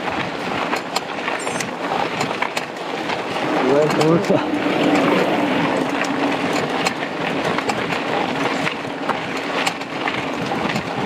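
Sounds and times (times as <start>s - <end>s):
bike clicking and rattling: 0.0s - 11.0s
tyres rushing on dirt: 0.0s - 11.0s.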